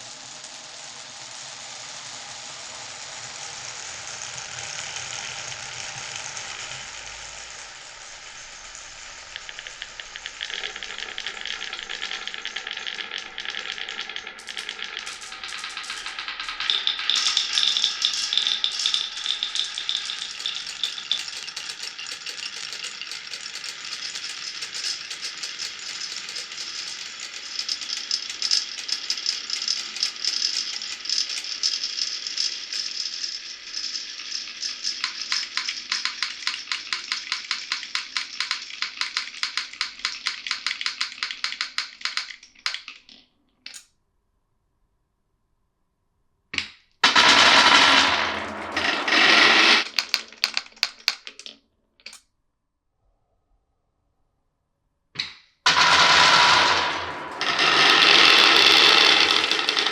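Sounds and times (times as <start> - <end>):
marbles rolling hiss: 0.0 - 42.3, 47.0 - 51.2, 55.7 - 59.9
marbles rattling clicks: 0.0 - 43.8, 46.6 - 52.2, 55.2 - 59.9.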